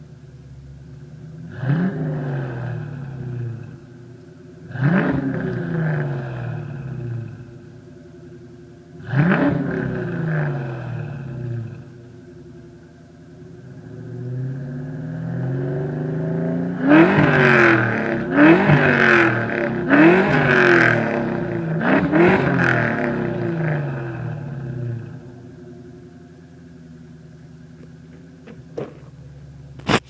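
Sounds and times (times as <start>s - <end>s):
car engine idling: 0.0s - 30.0s
car engine revving: 0.8s - 30.0s.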